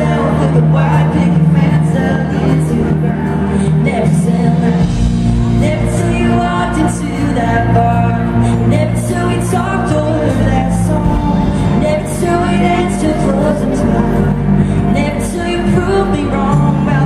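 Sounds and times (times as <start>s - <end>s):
bass guitar: 0.0s - 17.0s
electric guitar: 0.0s - 17.0s
woman singing: 0.0s - 17.0s.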